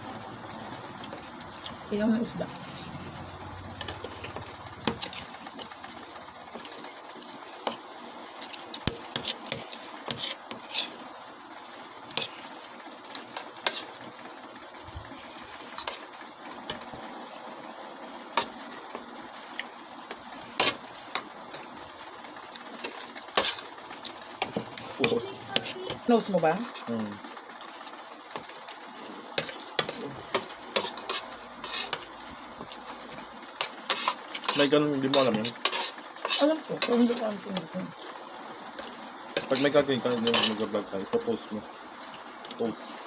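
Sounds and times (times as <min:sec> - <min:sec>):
steady background whir: 0:00.0 - 0:43.0.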